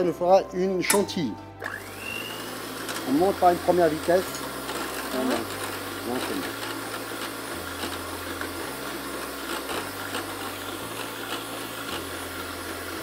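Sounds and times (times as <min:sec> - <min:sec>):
electric hand mixer whipping cream: 0:01.6 - 0:13.0.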